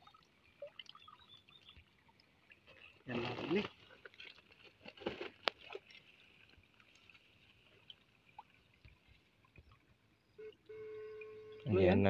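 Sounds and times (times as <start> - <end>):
sloshing muddy water: 0.0 - 11.7.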